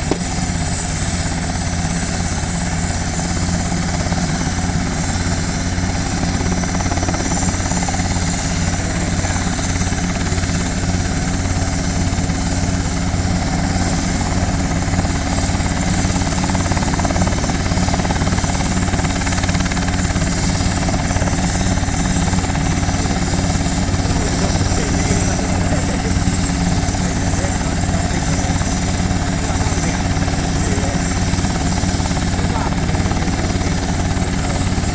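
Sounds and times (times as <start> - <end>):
helicopter engine low tone: 0.0 - 34.9
helicopter rotor beating: 0.0 - 34.9.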